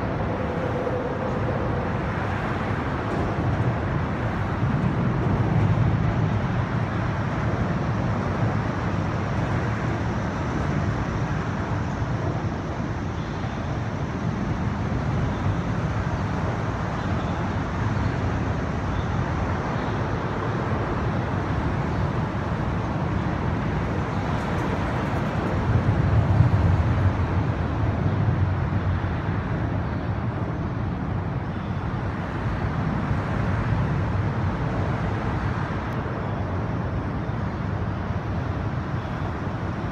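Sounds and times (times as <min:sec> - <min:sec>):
highway traffic rumble: 0:00.0 - 0:39.9.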